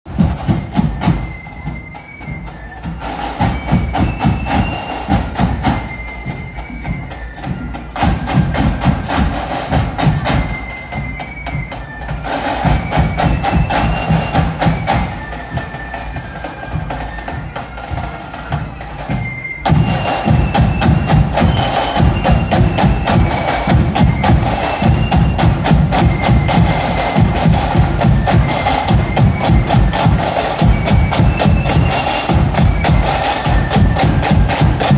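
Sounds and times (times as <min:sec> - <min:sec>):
marching flute band: 0:00.1 - 0:34.9
snare and bass drums: 0:00.1 - 0:34.9.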